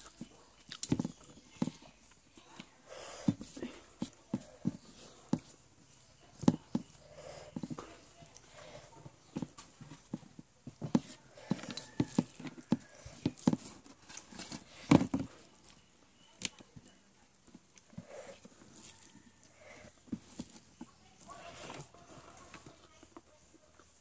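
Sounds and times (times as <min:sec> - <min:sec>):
person chewing food: 0:00.0 - 0:16.6, 0:17.3 - 0:22.6.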